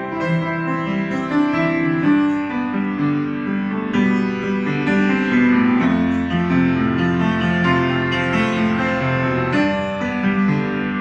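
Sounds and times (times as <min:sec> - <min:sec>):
upright piano melody: 0:00.0 - 0:11.0.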